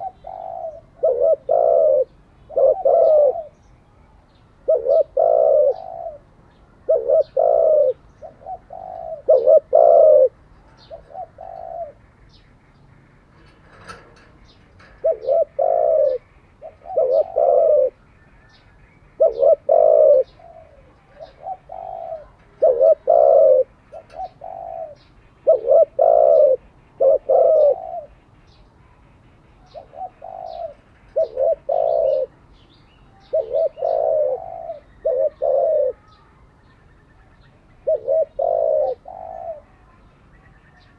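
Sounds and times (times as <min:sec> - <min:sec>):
dove cooing: 0:00.0 - 0:03.6, 0:04.6 - 0:32.4, 0:33.1 - 0:36.2, 0:37.8 - 0:40.1
small birds chirping: 0:00.0 - 0:40.9.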